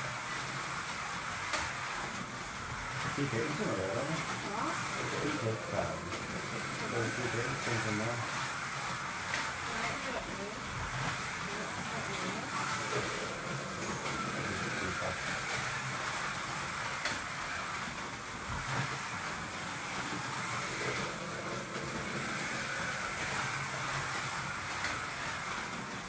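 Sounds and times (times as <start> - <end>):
cars rattling on plastic track: 0.0 - 26.0
slot car motors whirring: 0.0 - 26.0.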